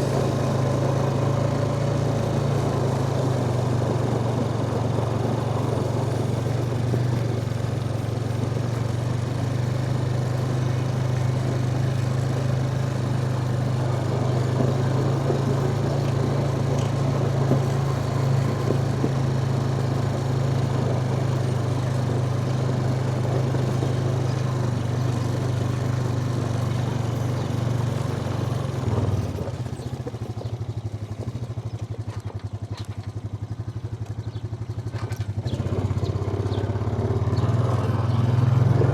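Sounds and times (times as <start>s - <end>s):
farm vehicle engine running: 0.0s - 38.9s.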